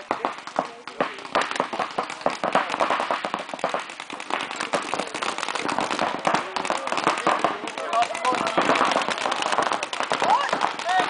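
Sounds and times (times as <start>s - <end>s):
paintball markers firing: 0.0s - 11.0s.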